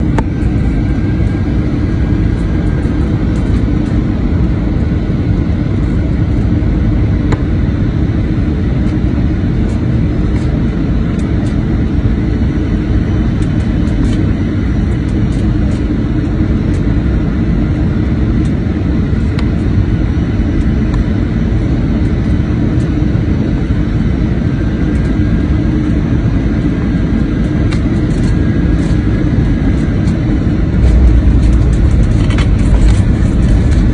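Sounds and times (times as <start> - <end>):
airplane cabin engine noise: 0.0 - 33.9.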